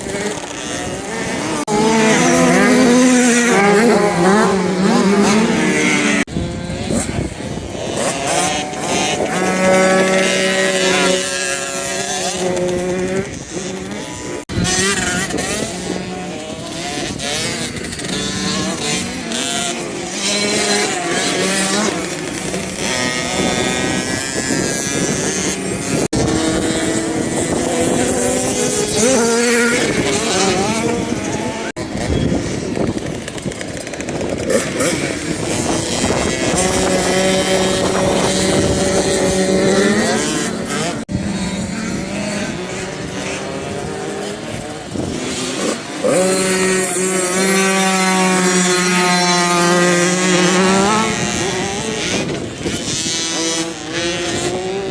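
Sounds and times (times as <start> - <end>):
motocross bike engines revving: 0.0 - 54.9.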